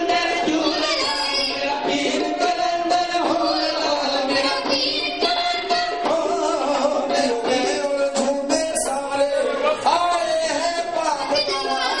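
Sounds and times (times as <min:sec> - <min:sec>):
tabla drumming: 0:00.0 - 0:12.0.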